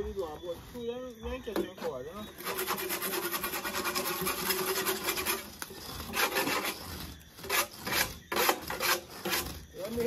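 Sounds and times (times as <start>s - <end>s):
render scraping on wall: 1.8s - 10.0s.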